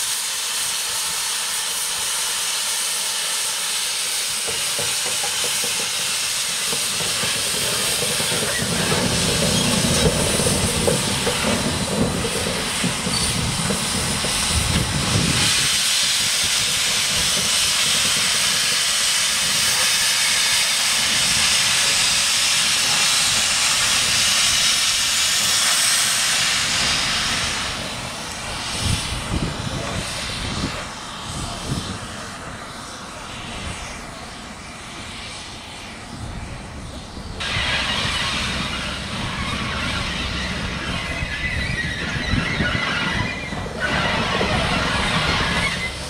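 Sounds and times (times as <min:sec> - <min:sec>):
steam locomotive hissing steam: 0:00.0 - 0:46.0.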